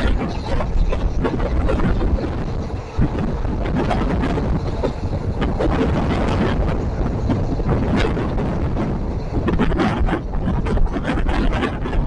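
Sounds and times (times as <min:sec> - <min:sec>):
train wheels rumbling on track: 0:00.0 - 0:12.0
wind buffeting microphone: 0:00.0 - 0:12.0.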